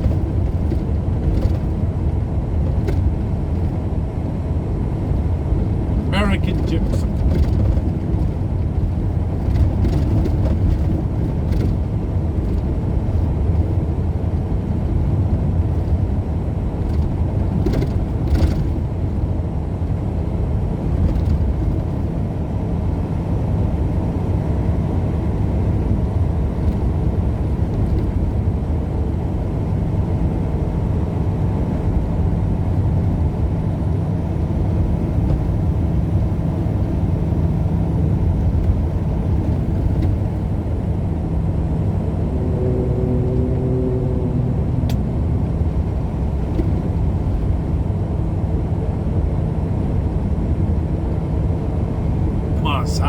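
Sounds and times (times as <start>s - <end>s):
road and engine noise inside vehicle: 0.0s - 53.0s.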